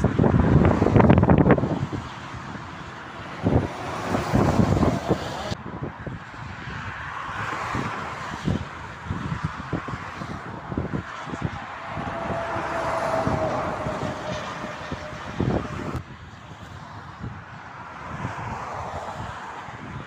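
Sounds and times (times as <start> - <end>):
motorway traffic noise: 0.0 - 20.0
wind buffeting microphone: 0.0 - 20.0.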